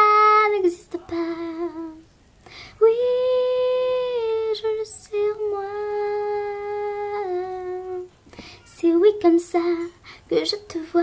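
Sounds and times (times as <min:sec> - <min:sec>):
girl singing unaccompanied: 0:00.0 - 0:02.1, 0:02.7 - 0:11.0.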